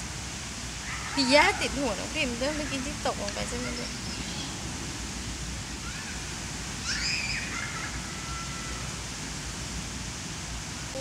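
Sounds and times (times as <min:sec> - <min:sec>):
sea breeze and surf: 0:00.0 - 0:11.0.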